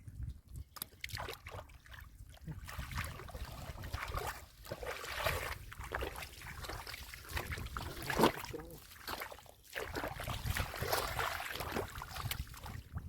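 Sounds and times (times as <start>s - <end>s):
muddy water splashing: 0.6s - 13.0s.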